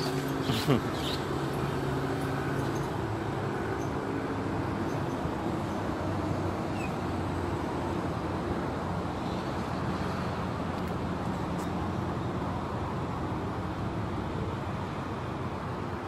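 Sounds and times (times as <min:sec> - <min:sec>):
low engine hum: 0:00.0 - 0:16.0
outdoor background noise: 0:00.0 - 0:16.0.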